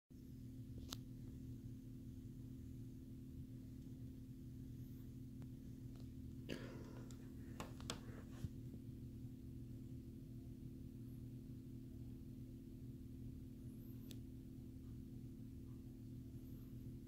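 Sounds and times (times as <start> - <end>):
steady low hum: 0.2 - 17.0.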